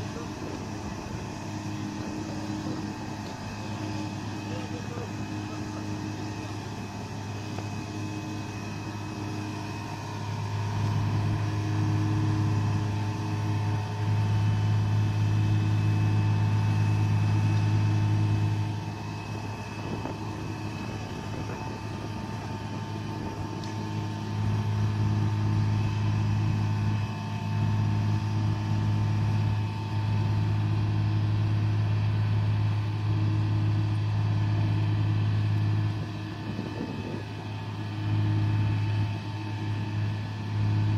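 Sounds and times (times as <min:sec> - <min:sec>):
thin steady whine: 0:00.0 - 0:40.9
truck engine running under load: 0:00.0 - 0:40.9.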